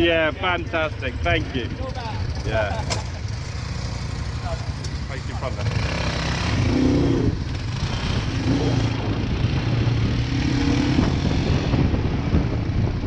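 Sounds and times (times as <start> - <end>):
atv engine rumbling: 0.0 - 13.0.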